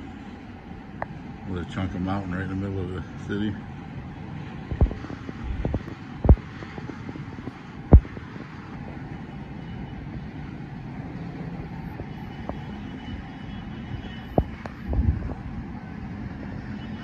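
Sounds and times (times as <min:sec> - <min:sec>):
low rumble of city traffic: 0:00.0 - 0:17.0.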